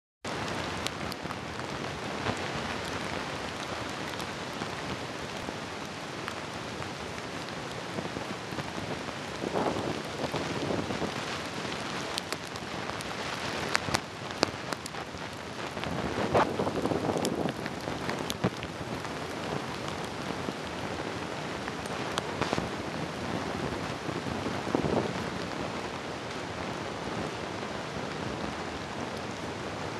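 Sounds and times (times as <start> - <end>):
hiss of driving snow: 0.3 - 29.9.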